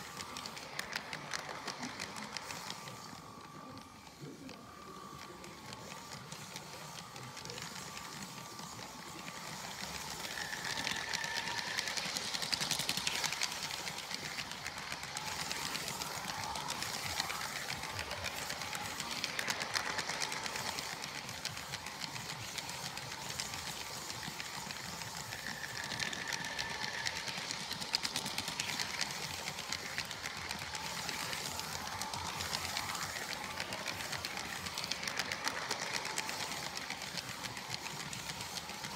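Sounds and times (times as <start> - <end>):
plastic wheels clattering on track: 0.0 - 38.9
small electric motor: 5.2 - 38.9.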